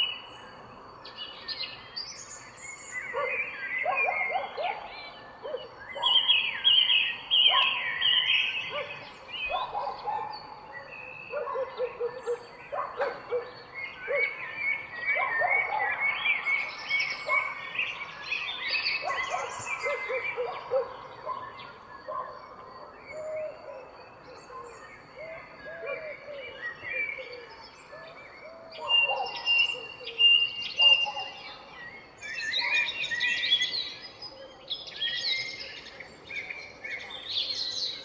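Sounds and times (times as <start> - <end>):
birds chirping and calling: 2.4 - 38.0.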